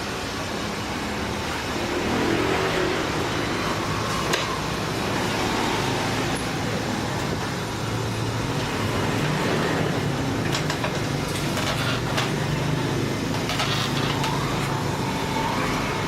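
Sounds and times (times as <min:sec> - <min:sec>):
steady mechanical background noise: 0:00.0 - 0:16.0.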